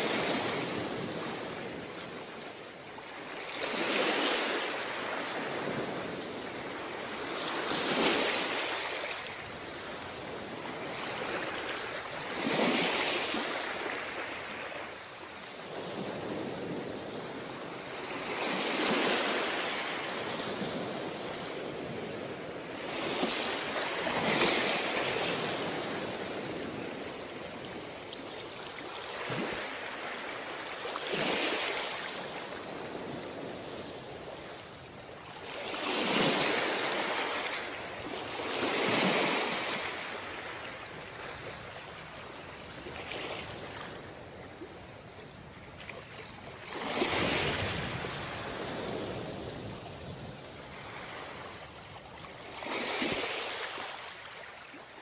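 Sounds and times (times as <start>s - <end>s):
waves crashing on a beach: 0.0s - 55.0s.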